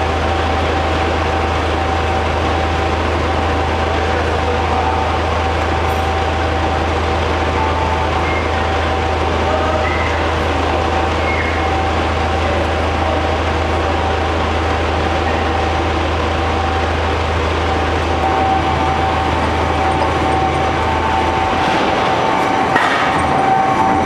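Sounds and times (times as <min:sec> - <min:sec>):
constant mechanical whine: 0:00.0 - 0:24.0
deep hum: 0:00.0 - 0:24.0.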